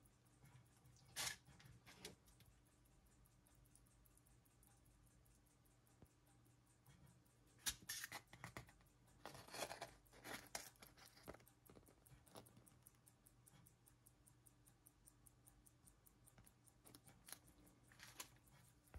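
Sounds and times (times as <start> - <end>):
watch ticking: 0.0 - 18.9.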